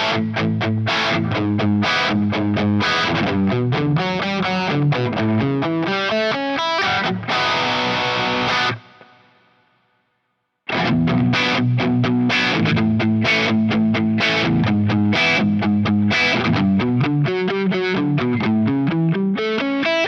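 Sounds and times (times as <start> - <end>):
distorted electric guitar riff: 0.0 - 9.5, 10.7 - 20.0.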